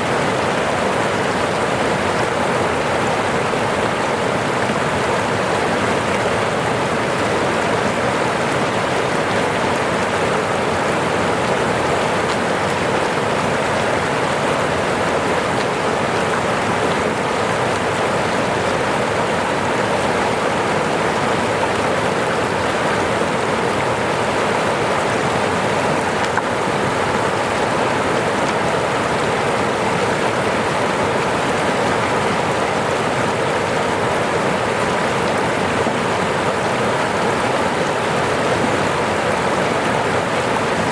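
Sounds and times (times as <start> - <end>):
falling water rushing: 0.0 - 40.9.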